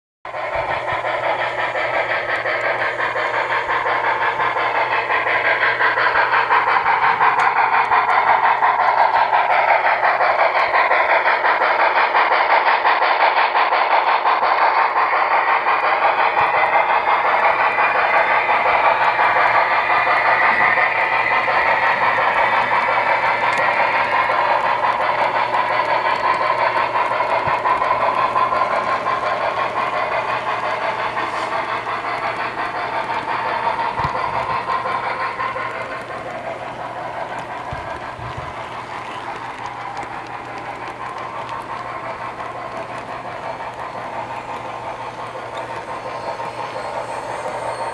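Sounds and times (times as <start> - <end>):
model train rolling and motor noise: 0.3 - 47.9.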